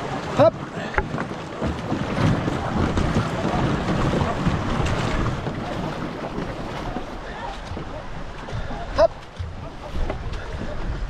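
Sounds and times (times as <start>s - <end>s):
water rushing and splashing: 0.0s - 11.0s
wind buffeting microphone: 0.0s - 11.0s.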